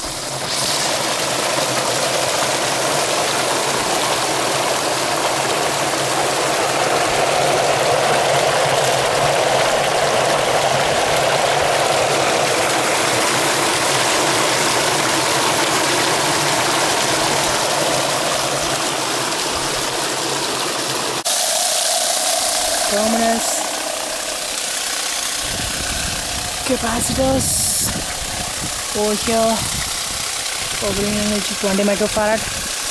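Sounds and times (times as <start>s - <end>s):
mechanical hum: 0.0s - 32.9s
water rushing and splashing: 0.0s - 32.9s.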